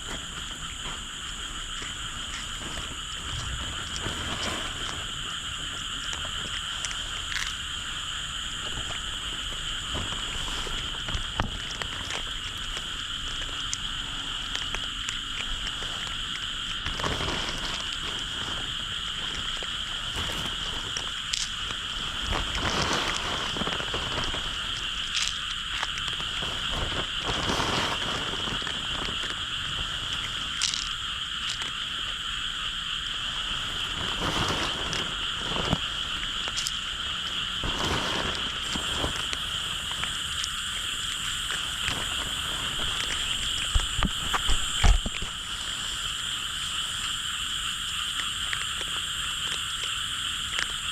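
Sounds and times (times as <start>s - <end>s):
frogs chorus calling: 0.0s - 50.9s.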